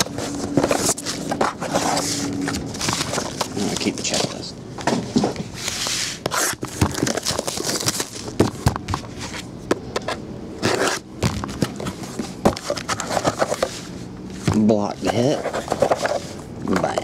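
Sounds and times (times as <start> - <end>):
box handling clicks and knocks: 0.0 - 5.5, 6.2 - 13.8, 14.4 - 17.0.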